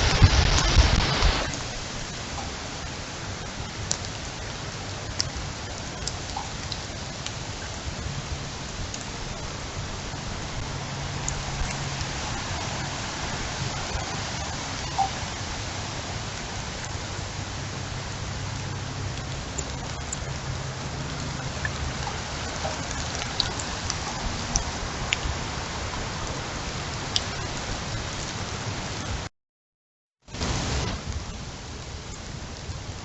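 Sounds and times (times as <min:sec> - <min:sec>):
heavy rain hissing: 0:00.0 - 0:29.3, 0:30.3 - 0:33.0.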